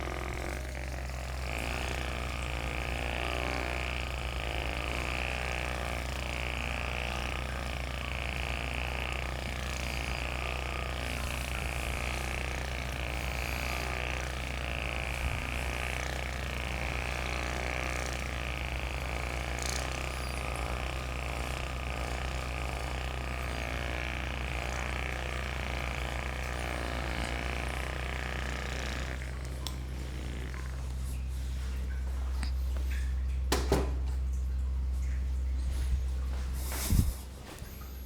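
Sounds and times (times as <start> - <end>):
electric massager humming: 0.0 - 38.0.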